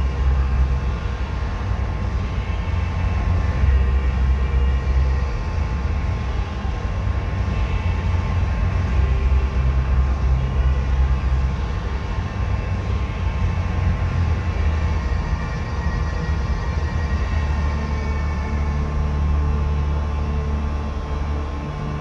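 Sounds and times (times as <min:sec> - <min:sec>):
ventilation fans rumbling: 0:00.0 - 0:22.0.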